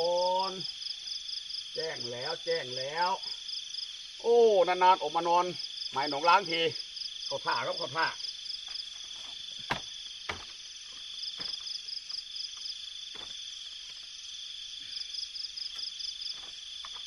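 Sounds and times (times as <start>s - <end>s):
insect pulsed chirp: 0.0s - 17.0s
insects droning: 0.0s - 17.0s.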